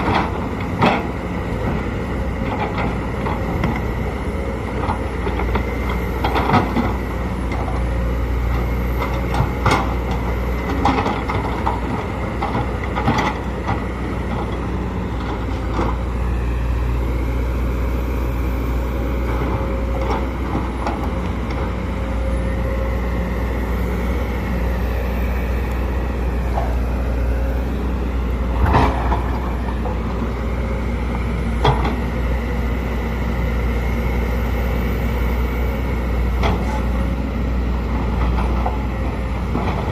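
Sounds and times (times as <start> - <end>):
excavator diesel drone: 0.0 - 39.9.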